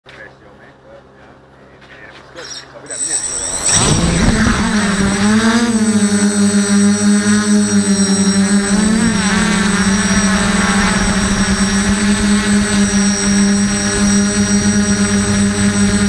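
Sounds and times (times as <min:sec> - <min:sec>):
quadcopter motors whining: 0:02.3 - 0:16.0.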